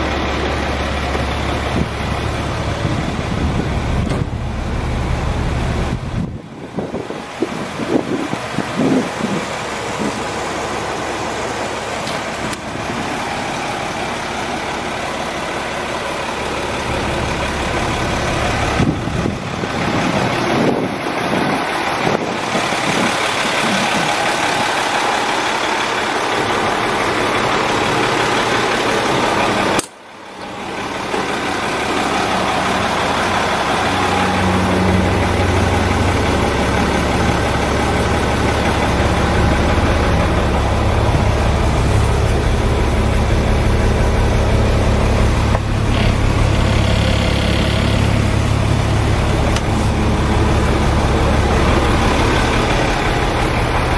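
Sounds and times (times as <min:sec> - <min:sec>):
deep engine rumble: 0:00.0 - 0:53.9
truck engine running: 0:00.0 - 0:53.9.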